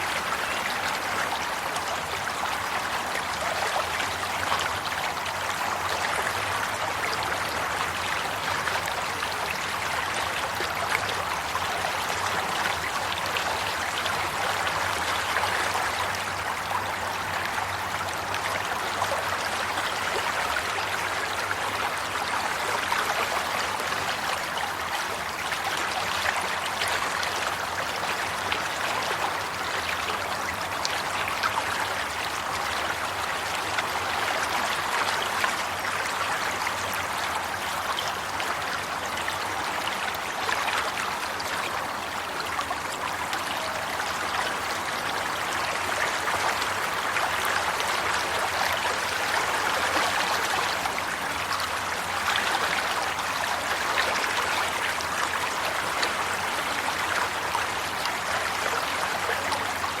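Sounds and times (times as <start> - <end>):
running water flowing: 0.0 - 60.0.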